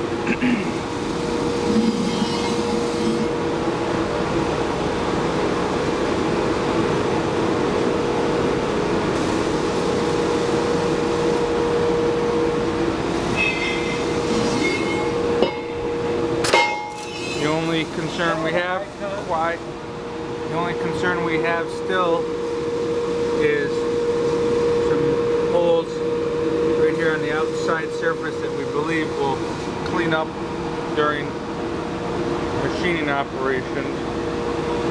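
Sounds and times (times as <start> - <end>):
shop machinery droning: 0.0 - 34.9.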